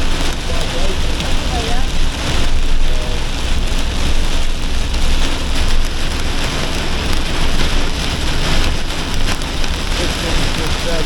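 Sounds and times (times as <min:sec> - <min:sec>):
heavy rain drumming on vehicle roof: 0:00.0 - 0:11.0
low rumble: 0:00.0 - 0:11.0.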